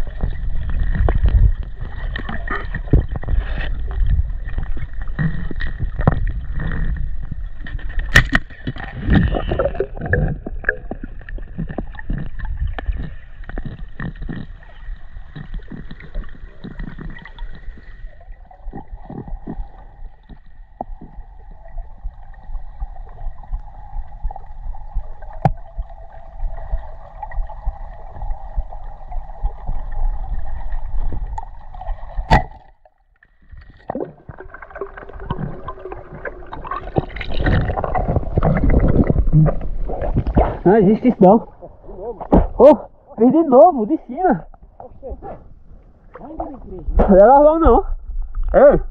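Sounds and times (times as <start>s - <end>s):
water sloshing and gurgling: 0.0s - 48.9s.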